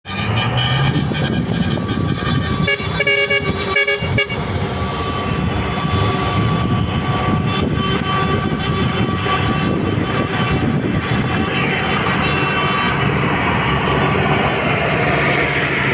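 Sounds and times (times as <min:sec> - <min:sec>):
truck horns blasting: 0:00.0 - 0:15.9
truck engines idling: 0:00.1 - 0:15.9.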